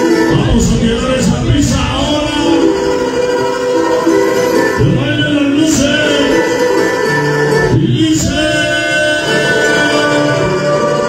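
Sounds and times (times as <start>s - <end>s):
man singing into microphone: 0.0s - 3.5s, 4.6s - 11.0s
loud music over sound system: 0.0s - 11.0s.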